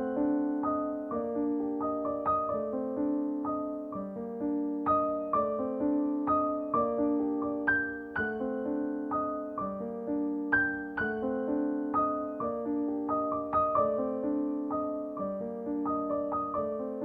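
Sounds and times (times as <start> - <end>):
soft slow piano melody: 0.0 - 17.0.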